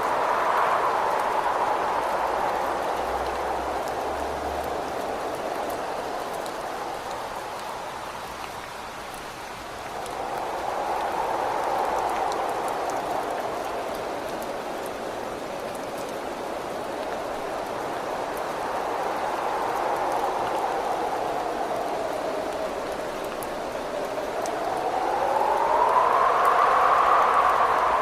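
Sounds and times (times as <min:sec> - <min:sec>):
raindrops ticking on a surface: 0:00.0 - 0:28.0
steady rain: 0:00.0 - 0:28.0
wind gusts: 0:00.0 - 0:28.0.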